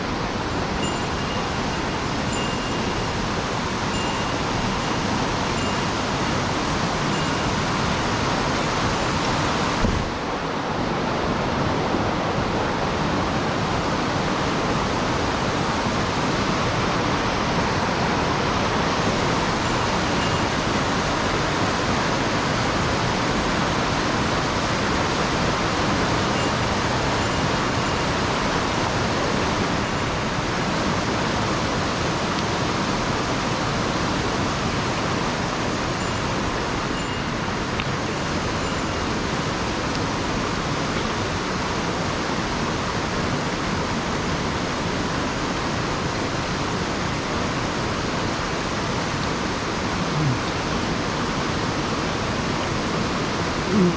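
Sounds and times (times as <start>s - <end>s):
mountain stream rushing: 0.0s - 53.9s.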